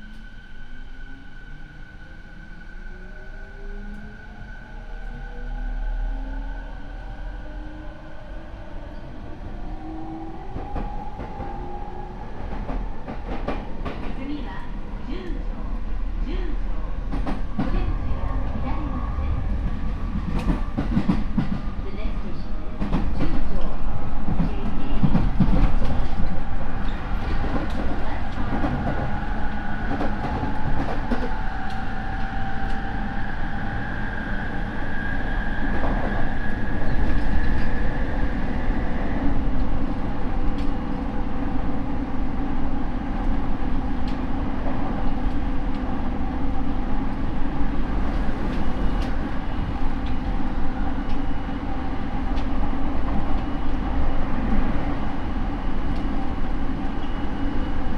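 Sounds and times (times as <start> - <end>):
train wheels rumbling on rails: 8.9 - 57.9.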